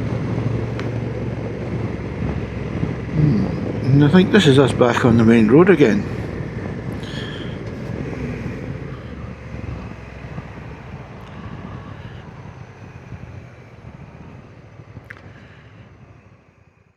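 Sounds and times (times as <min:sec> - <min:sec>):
motorcycle engine rumble: 0:00.0 - 0:16.9.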